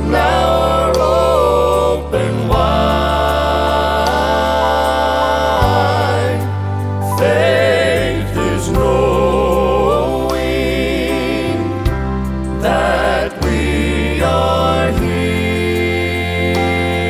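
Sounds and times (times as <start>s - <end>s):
steady bass notes: 0.0s - 17.0s.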